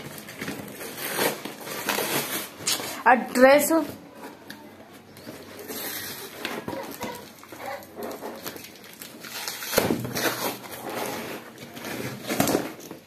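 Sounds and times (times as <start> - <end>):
cardboard and tape ripping: 0.0 - 3.1, 5.0 - 13.0.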